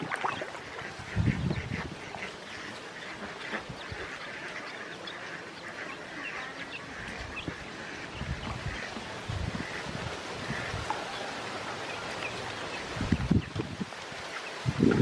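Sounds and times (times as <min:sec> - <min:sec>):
ducklings peeping: 0:00.2 - 0:15.0.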